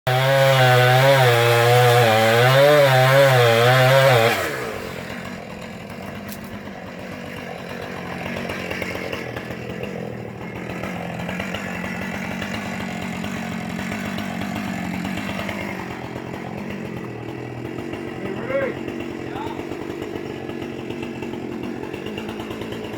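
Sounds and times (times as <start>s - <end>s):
chainsaw cutting at high revs: 0.1s - 22.9s.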